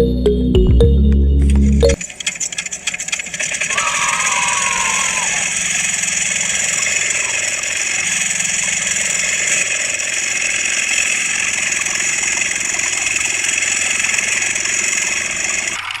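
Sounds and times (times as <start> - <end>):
small model engine buzzing: 2.2 - 16.0.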